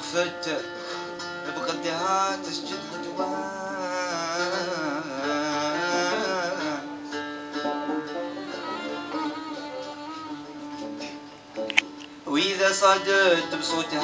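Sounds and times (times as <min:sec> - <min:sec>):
plucked lute: 0:00.0 - 0:14.0.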